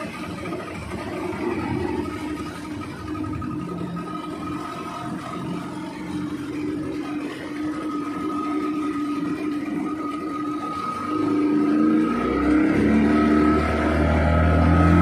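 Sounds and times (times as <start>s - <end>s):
speedboat engine running: 0.0s - 15.0s
water and hull noise: 0.0s - 15.0s.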